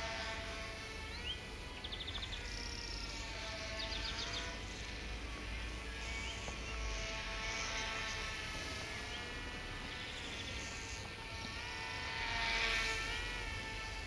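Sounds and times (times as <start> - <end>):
model plane motors buzzing: 0.0 - 14.0.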